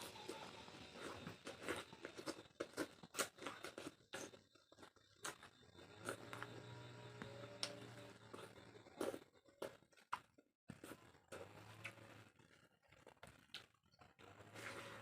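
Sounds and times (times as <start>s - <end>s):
mouth chewing wet crunches: 0.0s - 12.2s.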